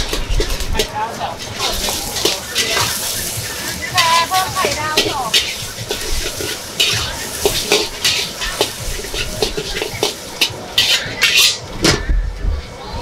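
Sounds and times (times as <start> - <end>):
eggs sizzling: 0.0 - 11.8
metal spatula scraping wok: 0.0 - 12.1.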